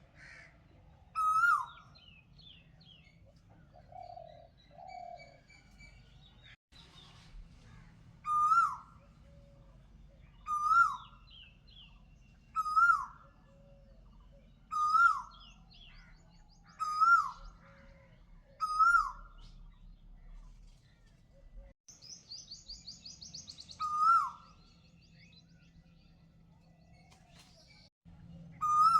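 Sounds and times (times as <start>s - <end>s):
faint chirps of other birds: 0.0s - 28.9s.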